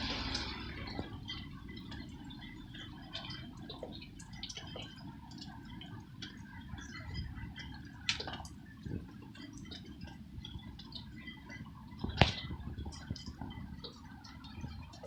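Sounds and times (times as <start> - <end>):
low background rumble: 0.0 - 15.0
rain drops dripping: 0.0 - 15.0.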